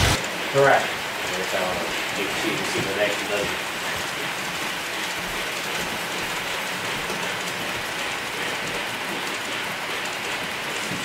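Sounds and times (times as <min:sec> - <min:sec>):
model train wheels rolling: 0:00.0 - 0:11.0.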